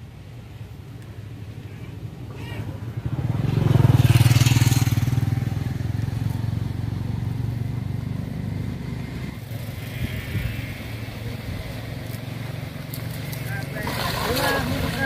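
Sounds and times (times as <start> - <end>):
small engine droning: 1.4 - 15.0.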